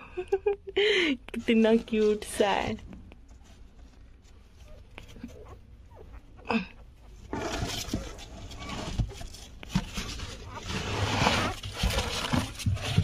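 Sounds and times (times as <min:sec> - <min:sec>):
rustling handling noise: 0:01.3 - 0:06.3, 0:07.1 - 0:13.0.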